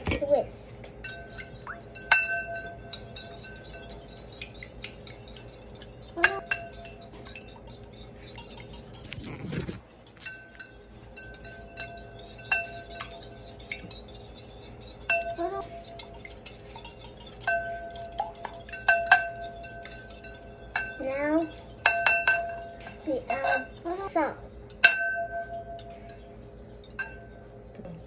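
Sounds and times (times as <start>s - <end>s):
whisk clinking against bowl: 0.9s - 9.1s, 9.9s - 23.8s, 24.7s - 26.2s, 26.8s - 27.4s.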